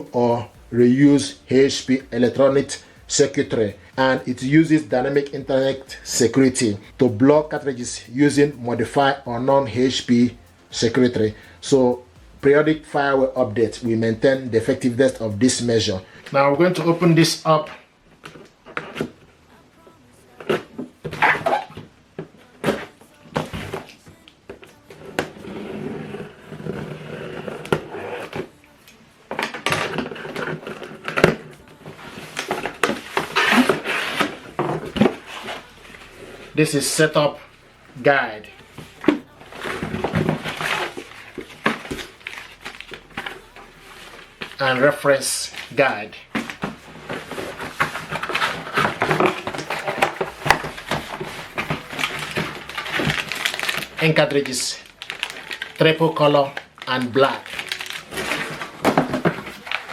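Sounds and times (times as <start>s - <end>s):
packaging rustling and scraping: 0.0s - 17.0s, 24.7s - 28.7s, 29.3s - 59.9s.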